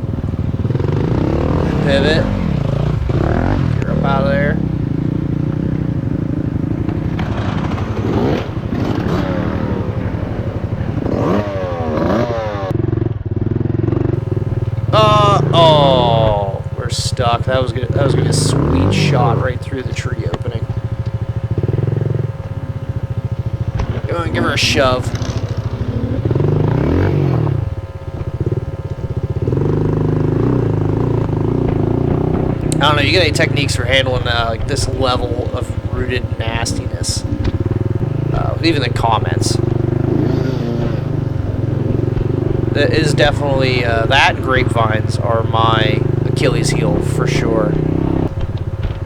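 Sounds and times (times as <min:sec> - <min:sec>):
motorbike engine revving hard: 0:00.0 - 0:49.0
motorbike rattling: 0:00.0 - 0:49.0.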